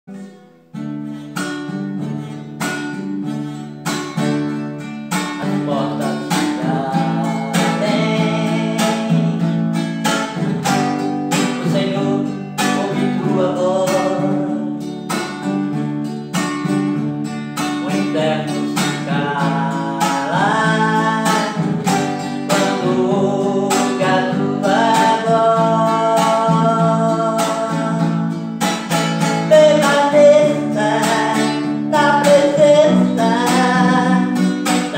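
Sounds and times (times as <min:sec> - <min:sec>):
acoustic guitar strumming: 0:00.1 - 0:34.9
man singing: 0:05.0 - 0:15.7, 0:17.6 - 0:34.9.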